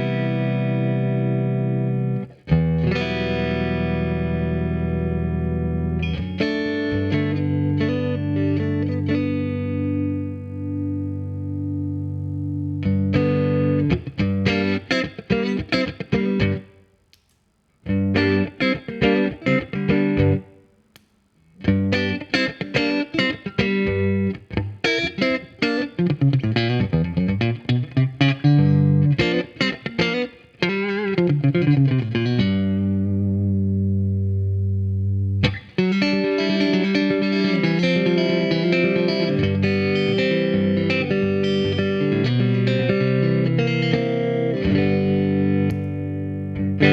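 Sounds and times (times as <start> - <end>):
electric guitar notes and runs: 0.0 - 16.7, 17.9 - 20.5, 21.6 - 46.9
electric guitar chords ringing: 0.0 - 16.8, 17.8 - 20.7, 21.6 - 46.9.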